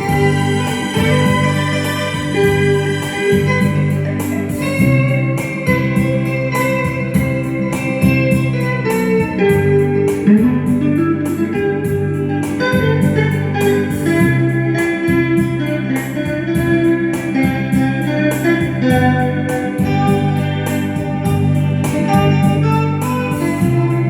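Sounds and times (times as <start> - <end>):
guitar melody: 0.0 - 24.0
held bass: 0.0 - 24.0
organ-like keyboard backing: 0.0 - 24.0.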